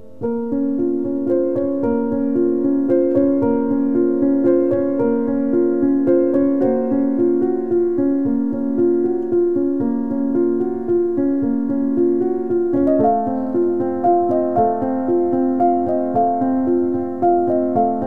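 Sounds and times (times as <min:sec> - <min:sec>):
soft piano melody: 0:00.0 - 0:18.0.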